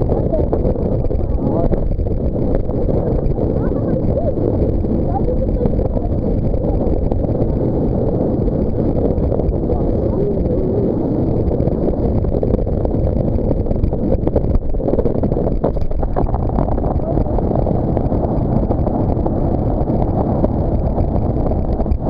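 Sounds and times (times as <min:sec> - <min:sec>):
boat motor: 0:00.0 - 0:22.0
rushing water: 0:00.0 - 0:22.0
wind buffeting microphone: 0:00.0 - 0:22.0.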